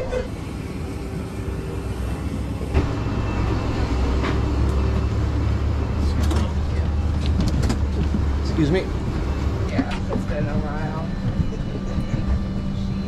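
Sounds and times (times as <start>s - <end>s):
airliner ground machinery rumble: 0.0s - 13.0s.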